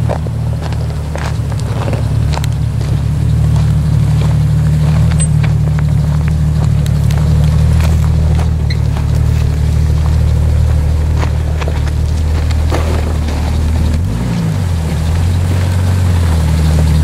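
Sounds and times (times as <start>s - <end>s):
engine running: 0.0s - 17.0s
tyres crunching on stone: 0.0s - 17.0s.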